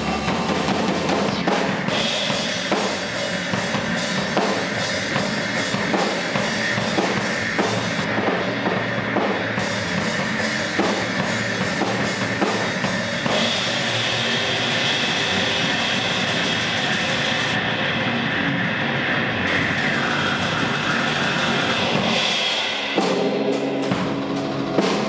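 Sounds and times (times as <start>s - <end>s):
drum kit playing: 0.0s - 18.2s, 18.8s - 25.0s
electric guitar: 0.0s - 25.0s.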